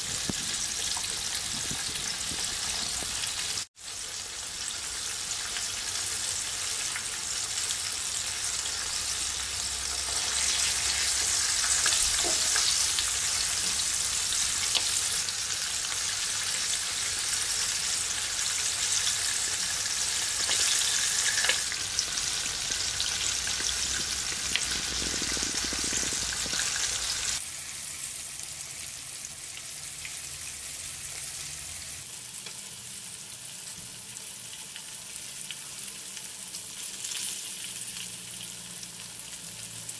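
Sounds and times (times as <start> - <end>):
hot oil sizzling around fish: 0.0 - 39.9.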